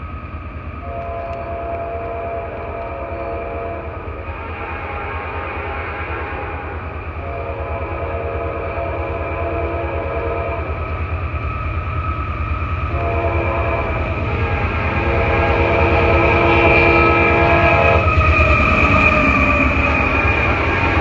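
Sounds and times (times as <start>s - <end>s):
train rumble: 0.0s - 21.0s
locomotive air horn: 0.8s - 10.8s, 12.9s - 20.3s.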